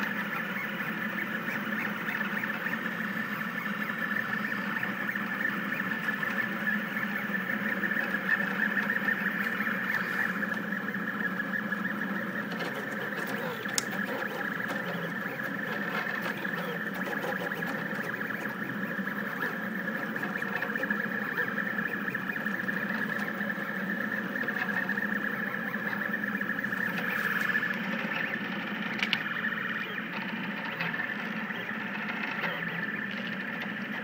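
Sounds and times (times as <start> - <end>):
steady hum: 0.0 - 34.0
stepper motors whining: 0.0 - 34.0.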